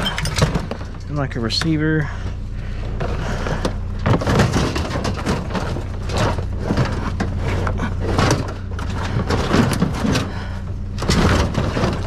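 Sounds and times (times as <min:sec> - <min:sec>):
objects clattering and rattling: 0:00.0 - 0:12.0
steady low hum: 0:00.0 - 0:12.0.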